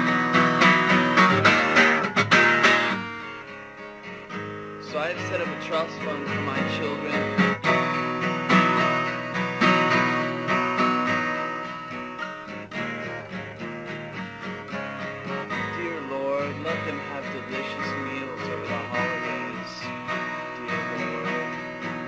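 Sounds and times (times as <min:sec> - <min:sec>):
guitar-led instrumental band music: 0:00.0 - 0:22.0.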